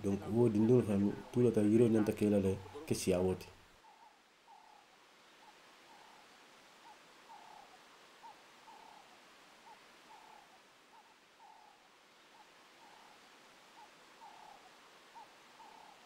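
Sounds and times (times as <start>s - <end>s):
quiet outdoor hiss: 0.0s - 16.0s
soft bird calls: 0.0s - 16.0s.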